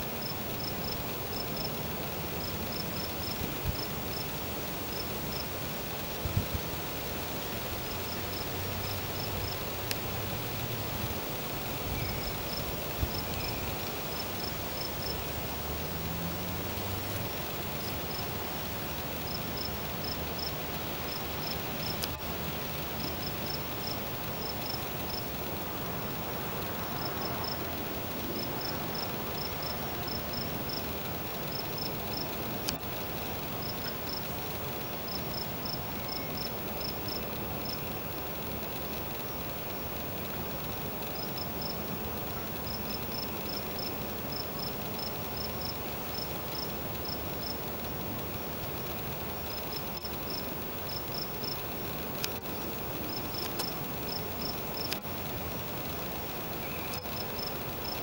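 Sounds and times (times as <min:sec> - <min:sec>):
insects chirping: 0:00.0 - 0:58.0
outdoor hiss: 0:00.0 - 0:58.0.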